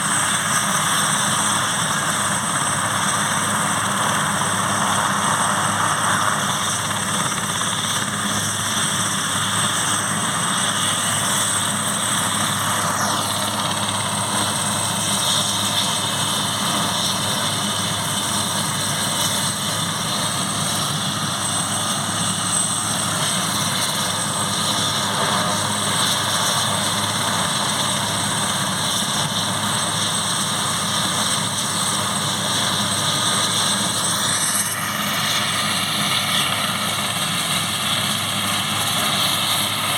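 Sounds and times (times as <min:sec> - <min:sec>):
helicopter engines and rotor: 0:00.0 - 0:39.9
high turbine whine: 0:00.0 - 0:39.9.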